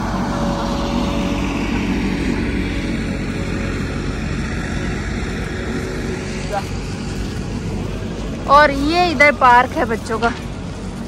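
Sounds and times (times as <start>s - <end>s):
loader engine droning: 0.0s - 11.0s.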